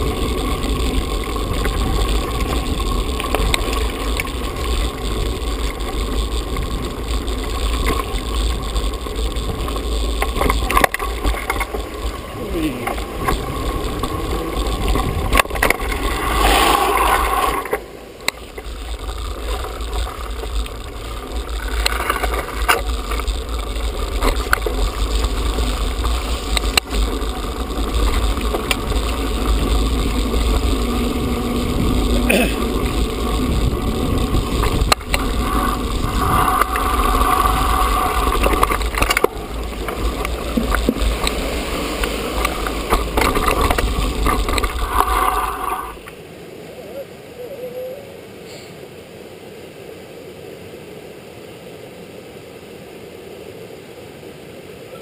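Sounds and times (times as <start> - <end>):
bike frame rattling and knocking: 0.0 - 45.7
wind rumble on microphone: 0.0 - 46.1
bike tyres crunching on gravel: 0.0 - 46.2.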